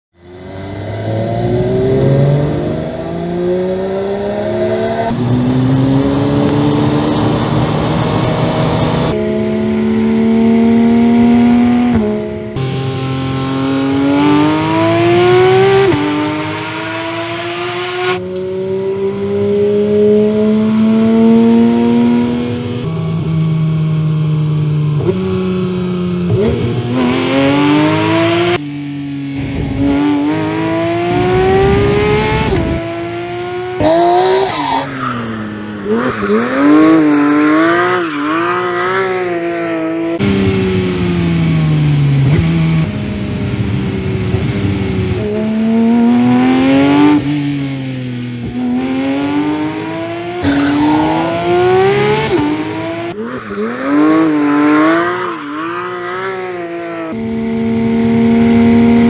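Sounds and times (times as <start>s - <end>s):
sports car engine accelerating hard: 0.2s - 59.0s.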